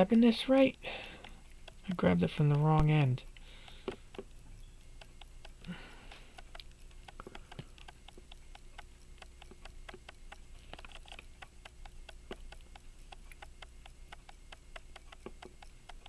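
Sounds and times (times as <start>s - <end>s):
pocket watch ticking: 0.0s - 16.0s.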